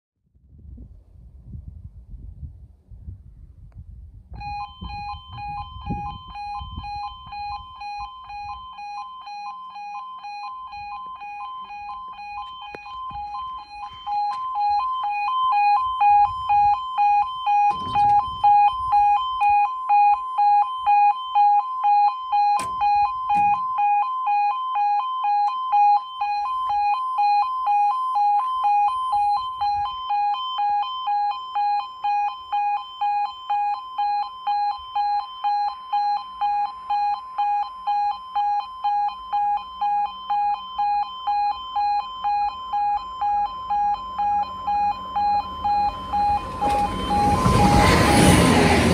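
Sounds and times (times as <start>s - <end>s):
level crossing alarm: 4.3s - 48.9s.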